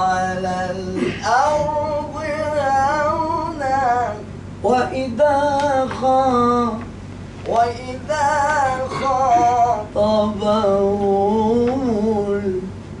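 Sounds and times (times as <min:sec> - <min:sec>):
man chanting recitation: 0:00.0 - 0:12.8.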